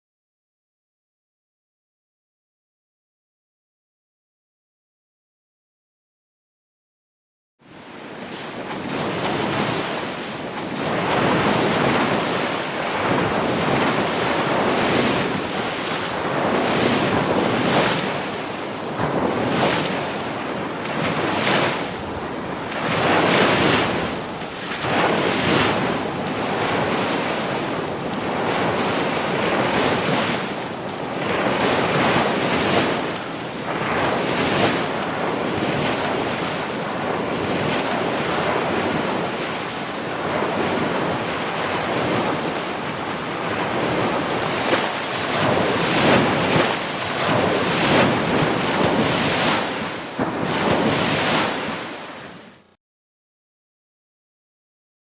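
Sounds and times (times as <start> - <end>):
waves breaking and washing in: 7.6 - 52.8.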